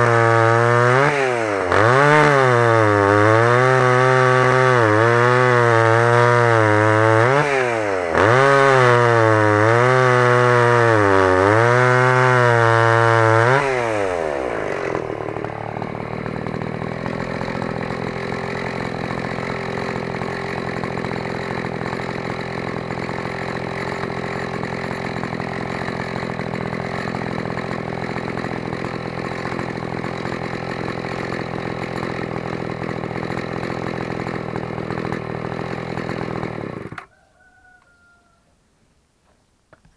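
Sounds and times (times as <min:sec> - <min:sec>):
chainsaw cutting log: 0:00.0 - 0:37.7
chainsaw idling: 0:00.0 - 0:38.2.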